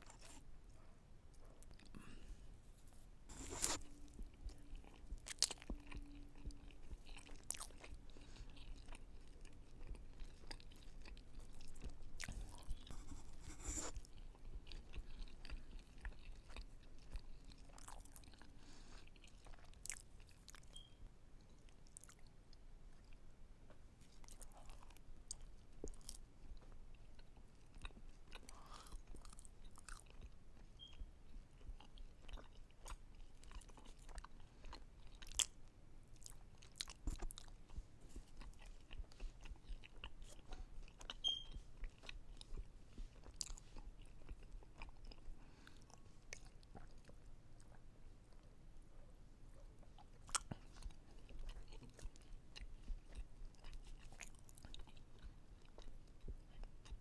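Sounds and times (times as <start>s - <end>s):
person chewing and eating: 3.3s - 48.5s, 49.6s - 57.0s.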